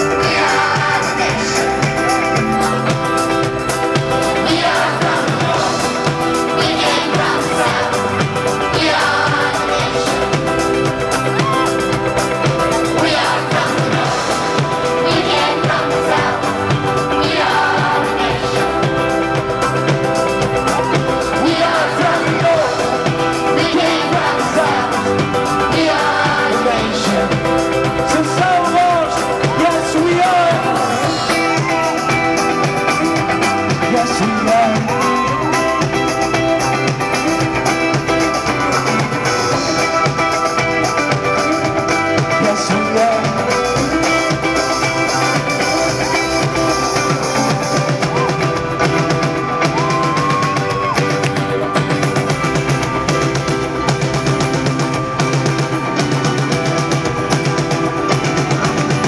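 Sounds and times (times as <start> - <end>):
wordless singing: 0.0 - 49.7
keyboards: 0.0 - 59.0.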